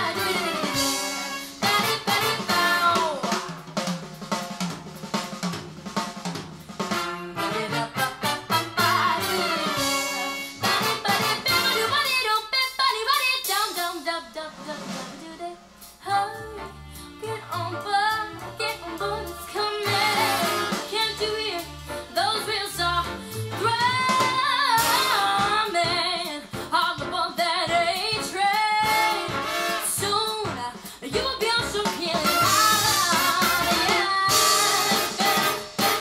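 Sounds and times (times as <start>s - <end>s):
jazz song with woman singing: 0.0s - 3.8s, 6.9s - 36.0s.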